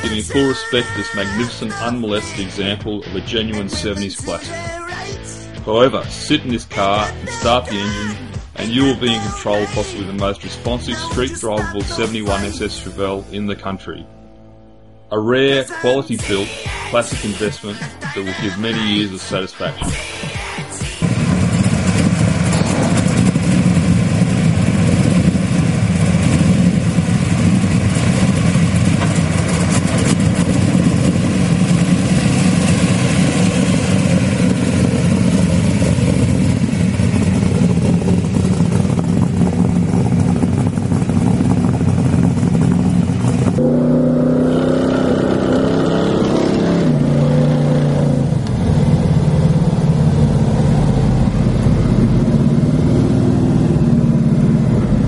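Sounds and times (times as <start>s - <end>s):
car engine rumbling: 0.0s - 55.0s.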